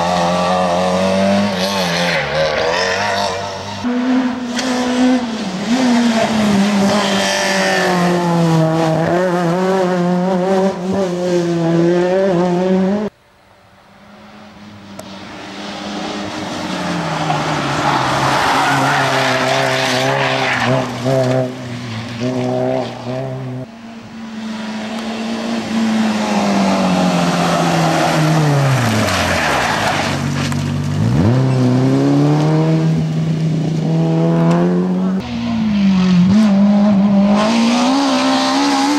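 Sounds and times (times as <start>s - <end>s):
rally car engine revving: 0.0s - 13.2s, 14.2s - 38.9s.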